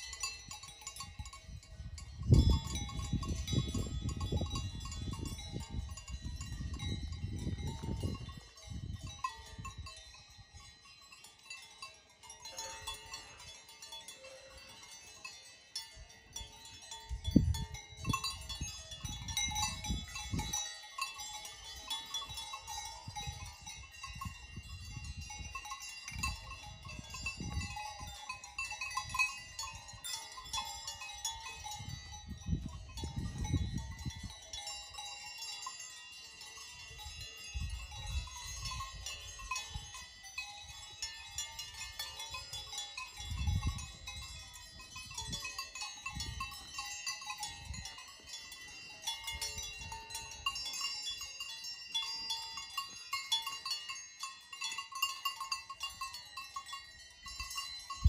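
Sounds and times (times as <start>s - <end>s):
livestock bells clanking: 0.0s - 58.0s.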